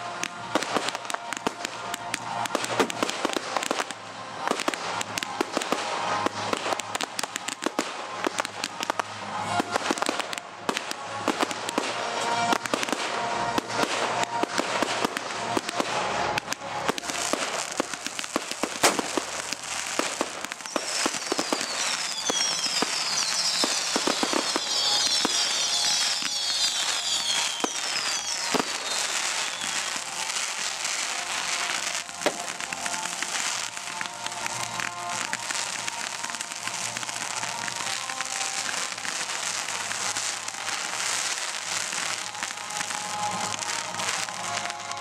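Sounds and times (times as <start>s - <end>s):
firework whistles: 0.0s - 45.0s
music: 0.0s - 45.0s
firework bangs: 0.1s - 45.0s.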